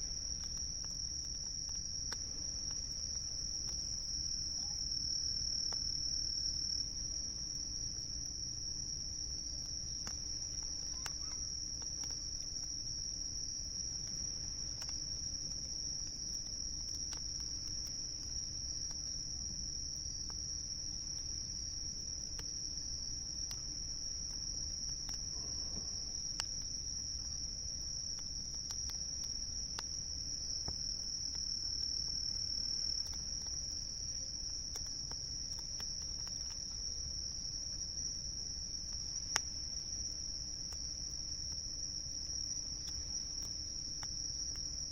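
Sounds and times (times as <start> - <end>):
campfire crackles: 0.0 - 44.9
crickets trilling: 0.0 - 44.9.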